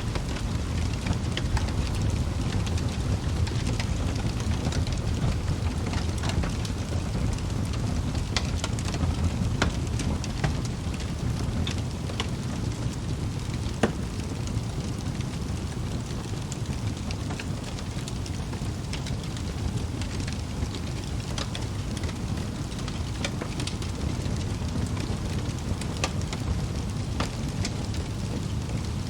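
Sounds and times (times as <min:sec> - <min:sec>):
logs crackling and popping: 0:00.0 - 0:29.0
low rumble of flames: 0:00.0 - 0:29.0.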